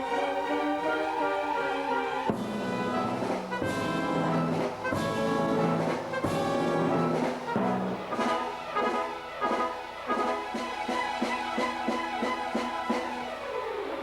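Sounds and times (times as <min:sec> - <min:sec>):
orchestral brass chords: 0:00.0 - 0:13.4
orchestral strings: 0:00.0 - 0:14.0.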